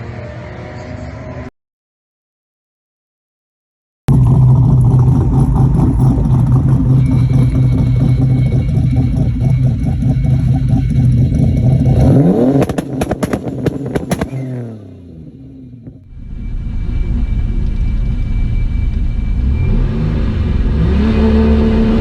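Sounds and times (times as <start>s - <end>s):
drag car engine revving: 4.1s - 22.0s
sharp exhaust cracks: 4.1s - 22.0s.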